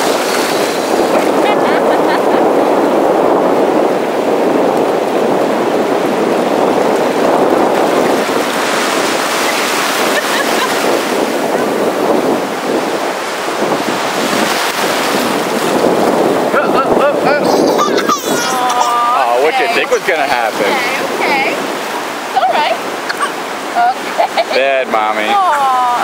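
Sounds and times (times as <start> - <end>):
waves breaking in surf: 0.0 - 26.0
wind on microphone: 0.0 - 26.0.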